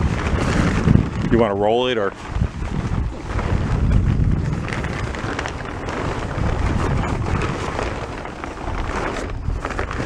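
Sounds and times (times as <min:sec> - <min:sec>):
plastic tarp rustling: 0:00.0 - 0:10.0
wind rumbling on microphone: 0:00.0 - 0:10.0.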